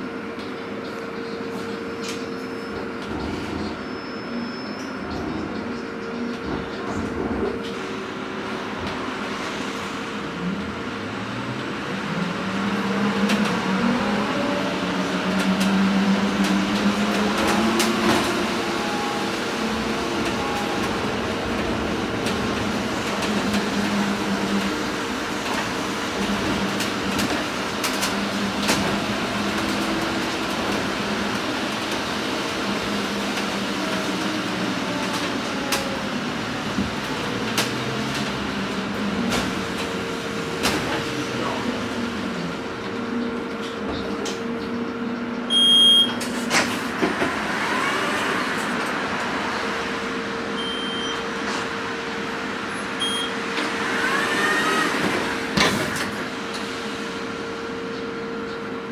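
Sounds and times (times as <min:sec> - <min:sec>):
bus cabin hum and road noise: 0:00.0 - 0:58.9.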